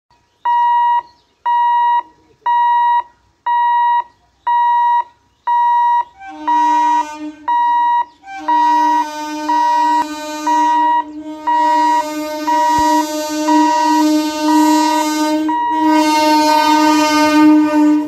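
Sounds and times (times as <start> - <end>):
level crossing hooter beeping: 0.5 - 18.0
lower warning tone: 0.5 - 18.0.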